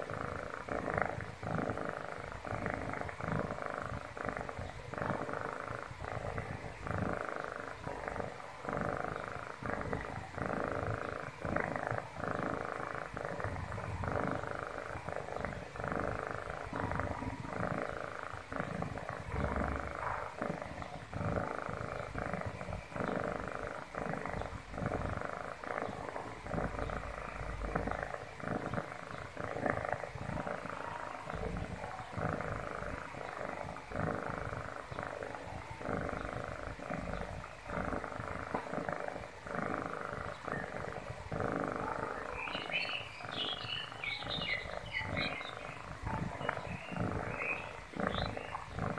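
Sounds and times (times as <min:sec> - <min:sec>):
kitten purring: 0:00.0 - 0:48.9.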